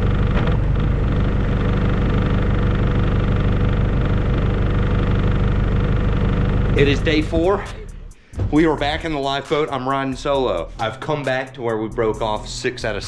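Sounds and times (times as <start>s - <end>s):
boat engine idling: 0.0s - 10.9s.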